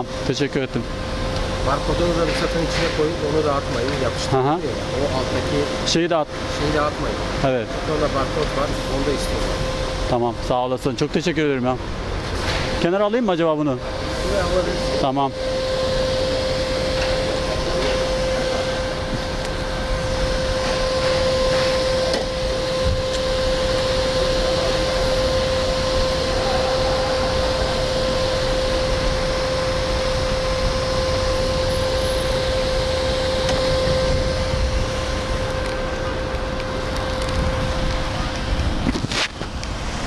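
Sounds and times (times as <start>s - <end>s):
constant whine: 0.0s - 40.0s.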